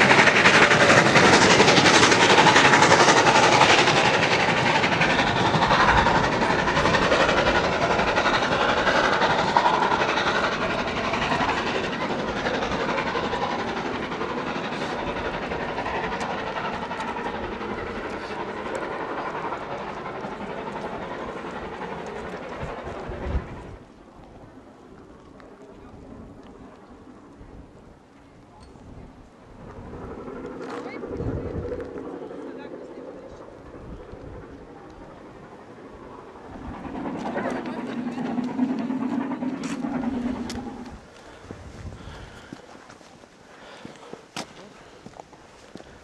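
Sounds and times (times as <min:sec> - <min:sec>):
coaches rattling over rails: 0:00.0 - 0:23.8, 0:29.8 - 0:46.0
steam train pulling away: 0:00.0 - 0:24.4, 0:28.7 - 0:46.0.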